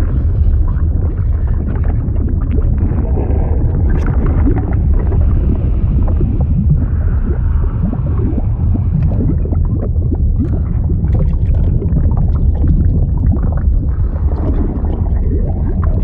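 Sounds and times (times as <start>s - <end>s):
bubbling blips: 0.0s - 16.0s
churning liquid rumble: 0.0s - 16.0s.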